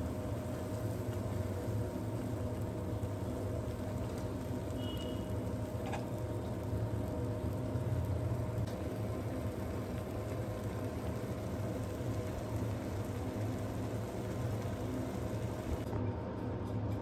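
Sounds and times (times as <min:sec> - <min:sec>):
gas burner flame rumble: 0:00.0 - 0:17.0.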